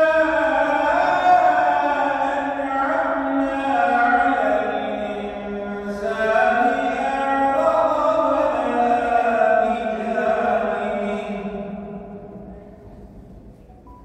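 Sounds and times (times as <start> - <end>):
man chanting a recitation: 0.0 - 12.2.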